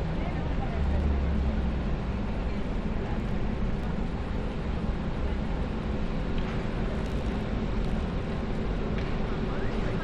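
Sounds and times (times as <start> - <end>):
traffic: 0.0 - 10.0.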